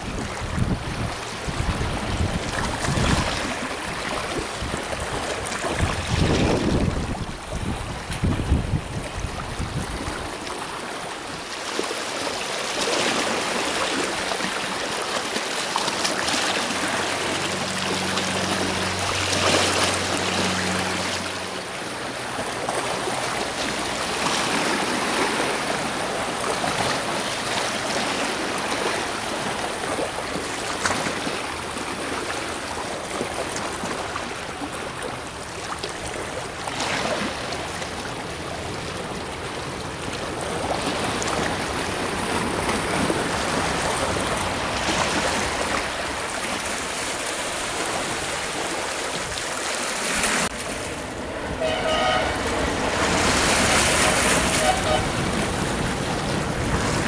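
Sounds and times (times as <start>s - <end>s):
small waves washing ashore: 0.0s - 57.0s.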